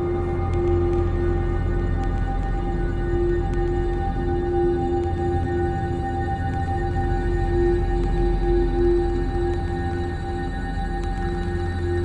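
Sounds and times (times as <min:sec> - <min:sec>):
dark ambient drone music: 0:00.0 - 0:12.0.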